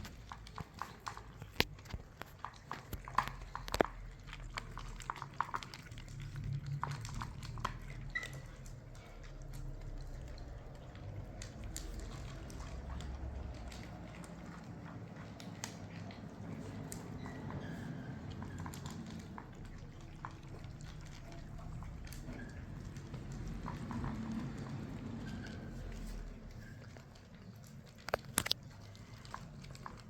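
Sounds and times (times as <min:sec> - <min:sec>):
kittens chewing and lapping: 0:00.0 - 0:30.0.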